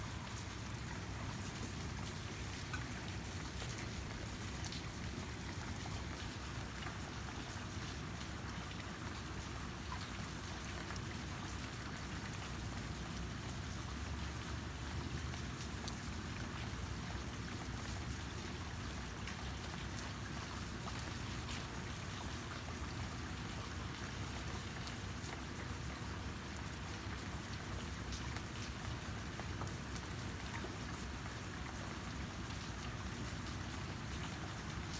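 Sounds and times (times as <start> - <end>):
raindrops ticking on a surface: 0.0 - 34.9
steady rain falling: 0.0 - 34.9.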